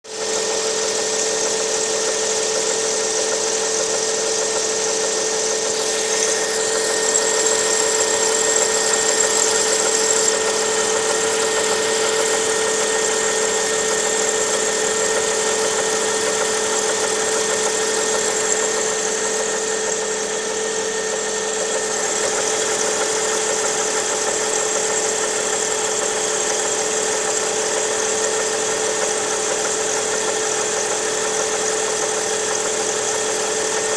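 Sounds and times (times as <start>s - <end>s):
engine knocking: 0.0s - 33.9s
car engine idling: 0.1s - 33.9s.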